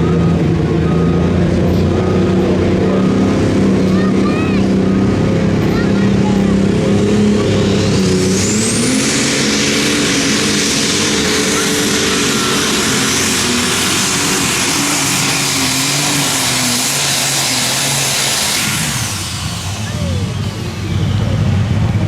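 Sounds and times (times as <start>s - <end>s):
diesel engine at full power: 0.0s - 22.0s
turbo whine: 0.0s - 22.0s.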